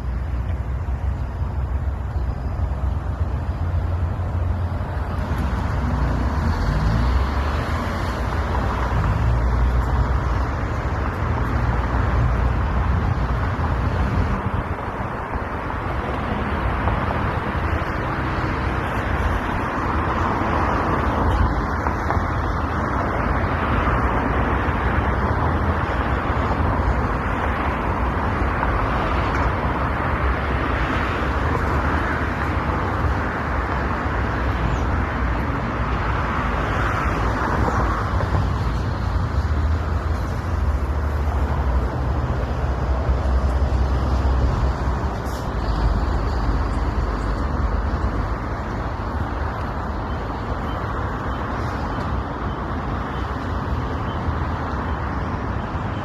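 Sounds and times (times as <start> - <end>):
road traffic noise: 0.0 - 56.0
vehicles passing: 0.0 - 56.0.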